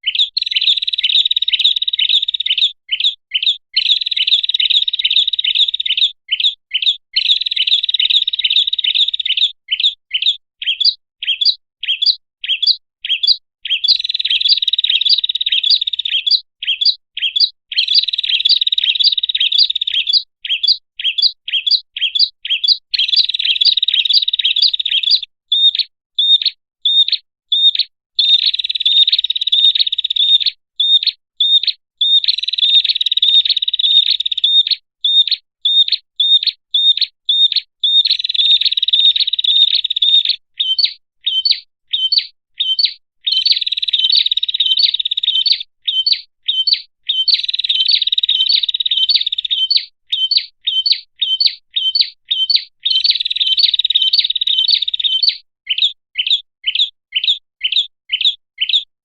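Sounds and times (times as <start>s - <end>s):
bird sharp high chirps: 0.0s - 58.9s.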